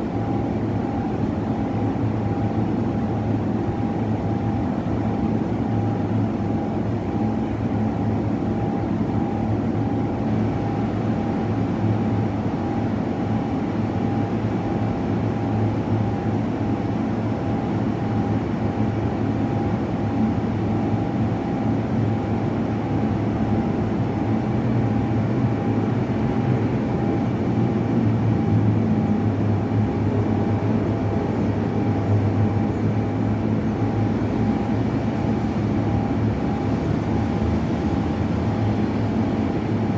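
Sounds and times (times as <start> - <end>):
low machine drone: 0.0 - 39.9.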